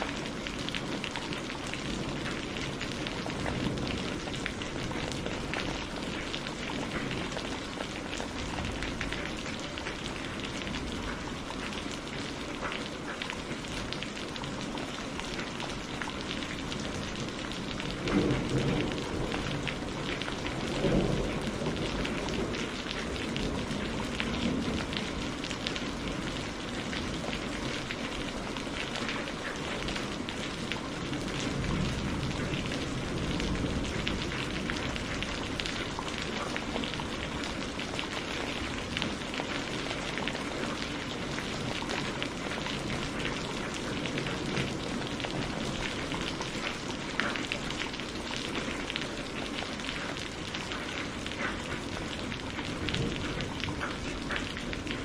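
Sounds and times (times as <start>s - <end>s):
thunder rumbles: 0.0s - 11.2s, 16.4s - 48.0s, 51.5s - 55.0s
heavy rain pattering: 0.0s - 55.0s.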